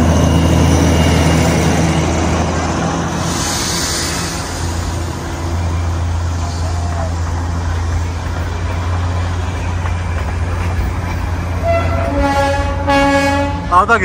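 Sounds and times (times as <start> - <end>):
outdoor noise: 0.0 - 14.0.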